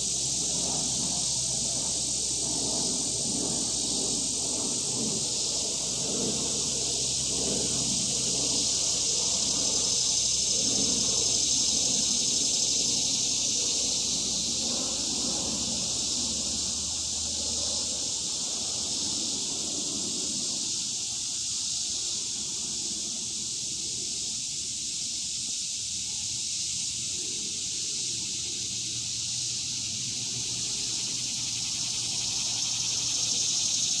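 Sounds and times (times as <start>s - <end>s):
insect chorus drone: 0.0s - 34.0s.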